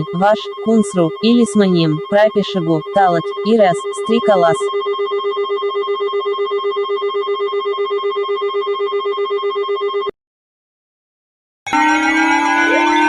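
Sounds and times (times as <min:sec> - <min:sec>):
pulsing electronic alert tone: 0:00.0 - 0:09.2, 0:11.7 - 0:13.0
alarm with rising tones: 0:00.0 - 0:10.1, 0:11.7 - 0:13.0.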